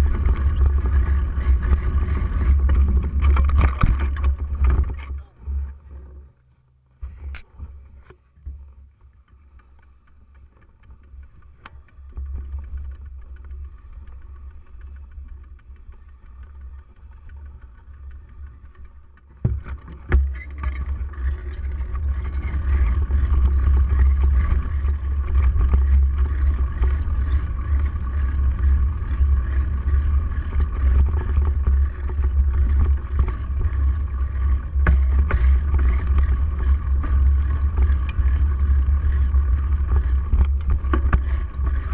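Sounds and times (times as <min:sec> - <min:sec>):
bike tyre and frame rattle: 0:00.0 - 0:41.9.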